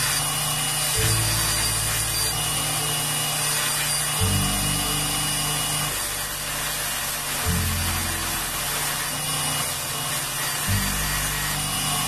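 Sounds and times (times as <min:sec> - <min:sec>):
belt grinder whining: 0:00.0 - 0:12.0.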